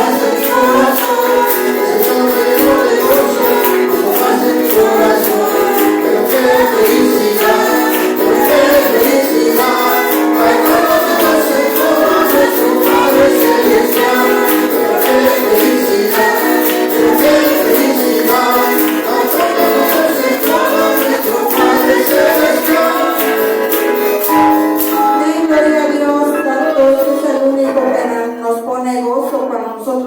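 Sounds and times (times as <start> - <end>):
tambourine rhythm: 0.0 - 25.4
voices singing together: 0.0 - 28.6.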